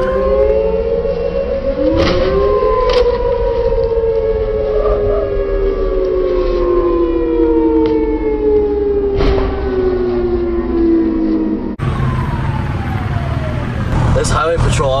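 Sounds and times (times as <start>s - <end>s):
police sirens wailing: 0.0s - 15.0s.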